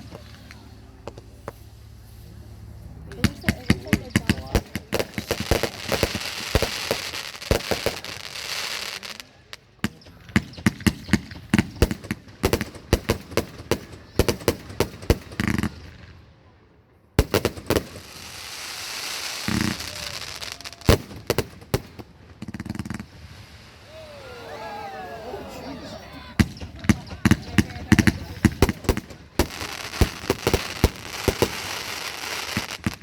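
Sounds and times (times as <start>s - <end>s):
fireworks bangs and crackles: 0.0s - 24.4s, 26.3s - 33.0s.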